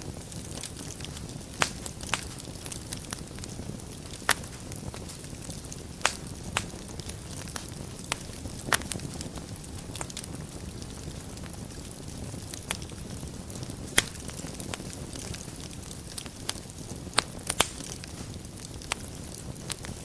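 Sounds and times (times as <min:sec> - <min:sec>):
fire flames rushing: 0:00.0 - 0:20.0
logs crackling and popping: 0:00.0 - 0:20.0.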